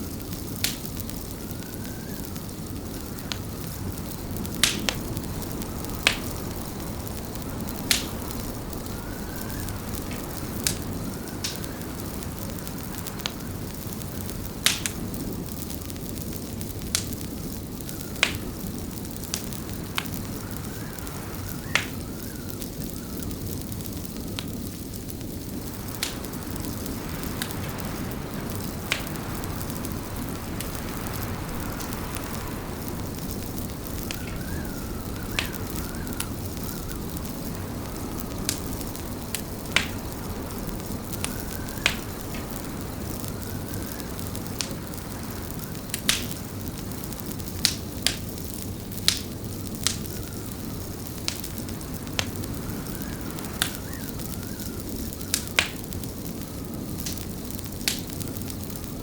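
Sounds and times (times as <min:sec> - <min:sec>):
fire crackling pops: 0:00.0 - 0:59.0.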